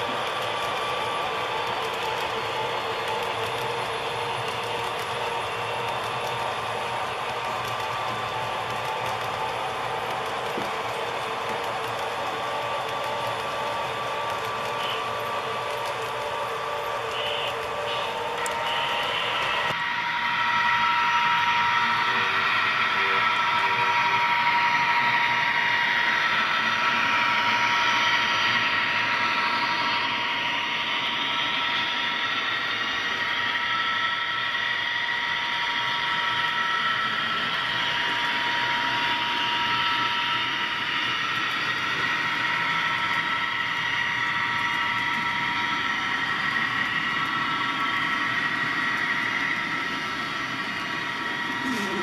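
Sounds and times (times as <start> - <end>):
model train wheels whirring: 0.0 - 52.0.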